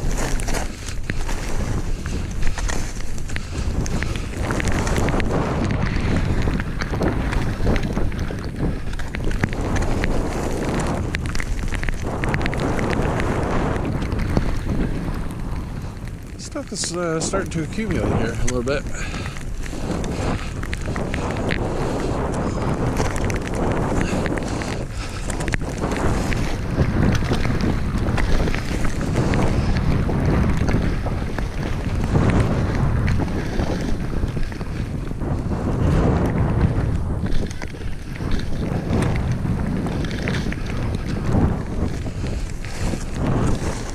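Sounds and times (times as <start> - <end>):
skis scraping on snow: 0.0 - 43.9
small sharp ticks: 0.0 - 43.9
wind buffeting microphone: 0.0 - 43.9.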